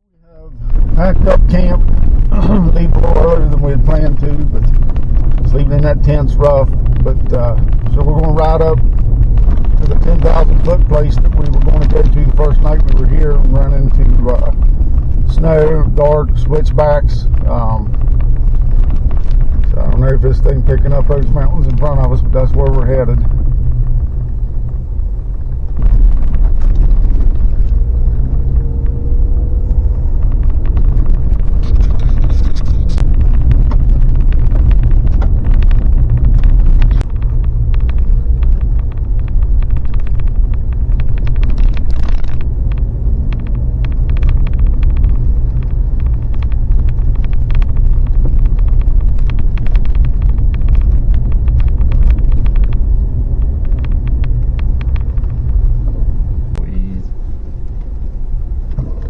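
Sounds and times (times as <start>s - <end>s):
engine and road rumble: 0.0s - 59.0s
small rattles and clicks: 0.6s - 59.0s.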